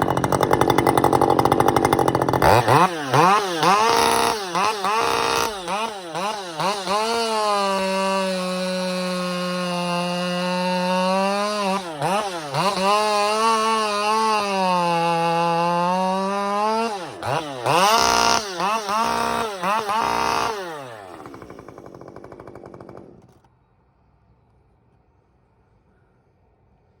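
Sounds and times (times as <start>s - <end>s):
chainsaw revving: 0.0s - 23.5s.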